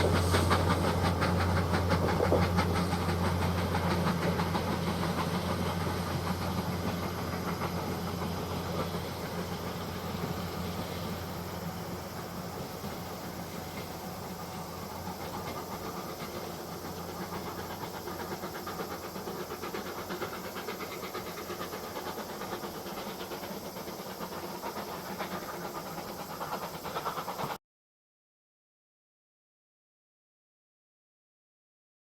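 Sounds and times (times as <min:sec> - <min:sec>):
steam locomotive hissing: 0:00.0 - 0:27.6.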